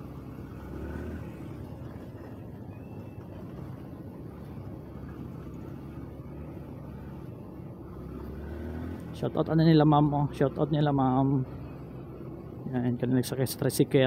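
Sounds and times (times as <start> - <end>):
nearby traffic engines: 0.0 - 14.0
small motorcycle engine rumbling: 0.0 - 14.0.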